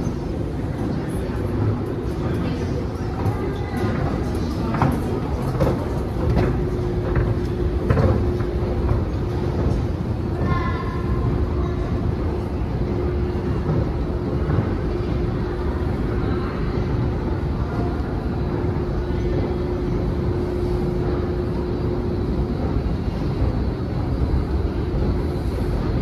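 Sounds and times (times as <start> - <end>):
constant hum tone: 0.0 - 26.0
escalator mechanical drone: 0.0 - 26.0.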